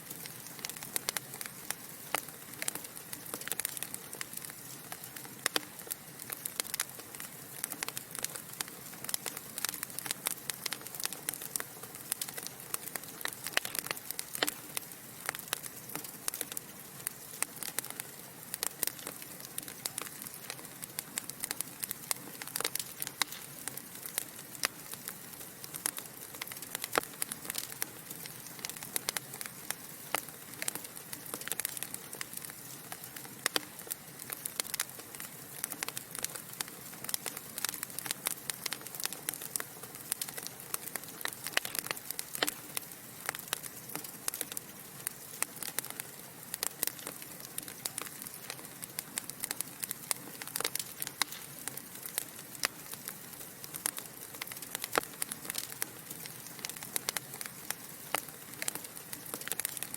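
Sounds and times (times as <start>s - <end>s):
burning logs crackling: 0.0s - 59.9s.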